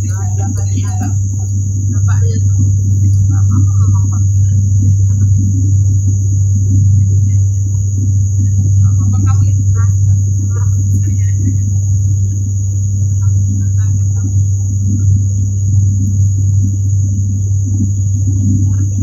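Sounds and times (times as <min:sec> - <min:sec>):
high whine: 0:00.0 - 0:19.0
propeller drone: 0:00.0 - 0:19.0.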